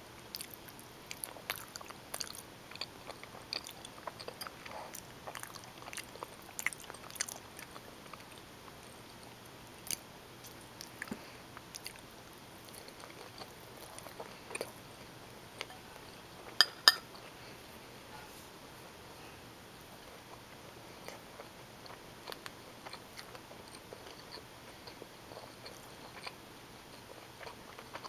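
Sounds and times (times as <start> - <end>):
person chewing food: 0.3 - 17.3, 19.9 - 28.0.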